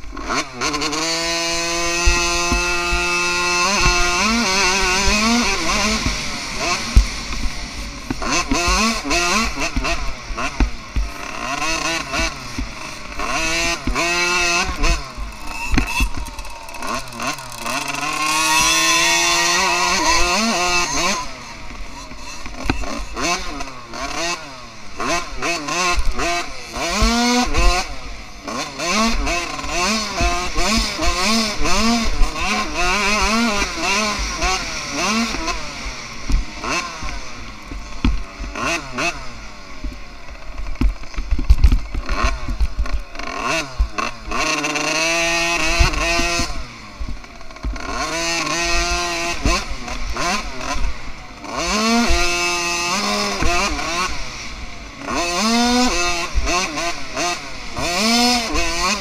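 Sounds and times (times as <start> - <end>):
two-stroke dirt bike engine revving: 0.0 - 59.0.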